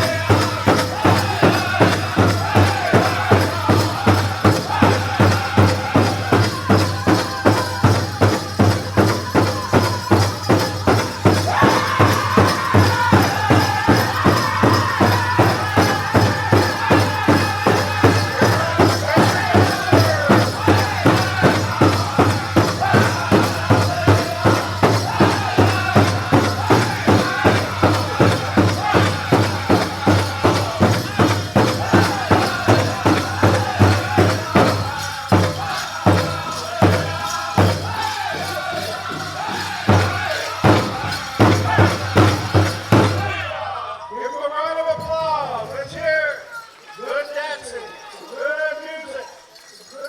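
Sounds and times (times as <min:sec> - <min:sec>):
big drum beating: 0:00.0 - 0:43.4
group singing: 0:00.0 - 0:44.4.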